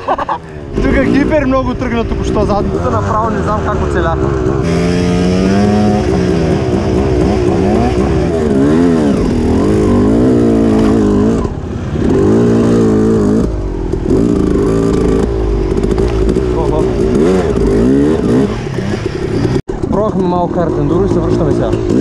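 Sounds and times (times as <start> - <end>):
dirt bike engine revving: 0.1 - 22.0.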